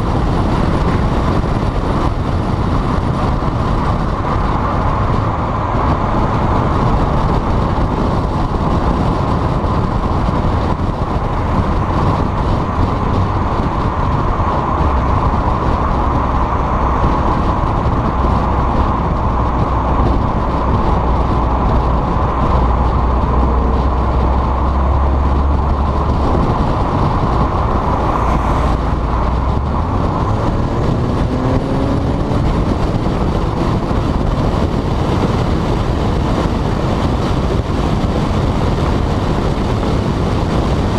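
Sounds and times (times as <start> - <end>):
car engine drone: 0.0 - 40.9
road noise: 0.0 - 40.9.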